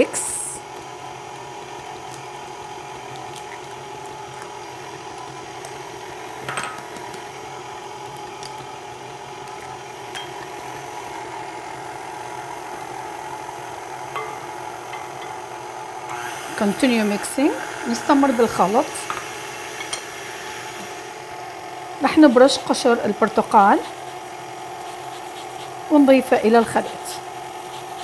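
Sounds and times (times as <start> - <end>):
stand mixer motor hum: 0.6 - 26.1, 26.8 - 28.0.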